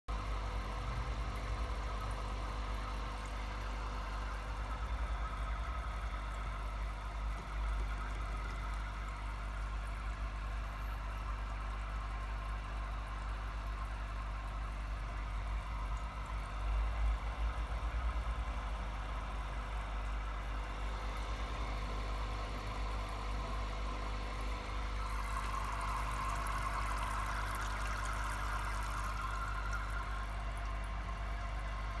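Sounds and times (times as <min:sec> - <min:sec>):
aquarium air pump humming: 0:00.1 - 0:32.0
sponge filter bubbling: 0:00.1 - 0:32.0.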